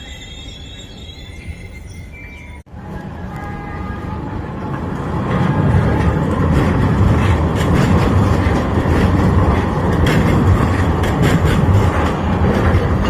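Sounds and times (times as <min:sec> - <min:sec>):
vehicle rumbling in motion: 0:01.6 - 0:13.0.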